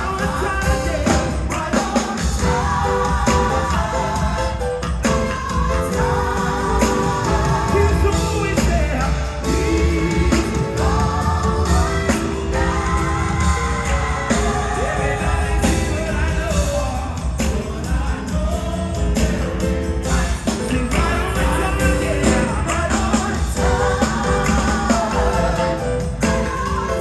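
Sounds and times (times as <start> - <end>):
choir singing in harmony: 0.0 - 27.0
drums and bass: 0.0 - 27.0.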